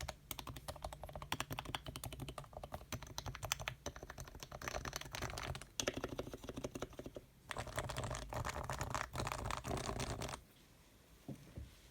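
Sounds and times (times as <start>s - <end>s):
fast typing on keyboard: 0.0s - 10.4s.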